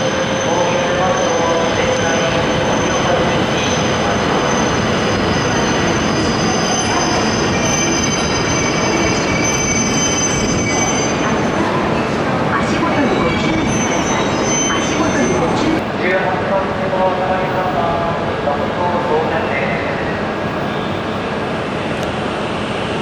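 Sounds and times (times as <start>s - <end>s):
high-speed train passing: 0.0s - 23.0s.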